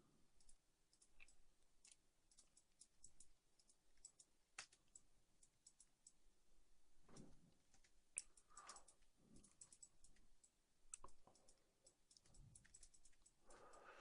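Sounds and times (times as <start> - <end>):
mouse and keyboard clicks: 0.4 - 6.2, 7.7 - 13.8.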